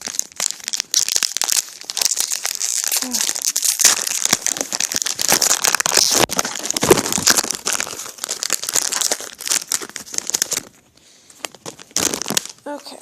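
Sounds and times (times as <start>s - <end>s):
foil wrapper crinkling and tearing: 0.0s - 12.7s.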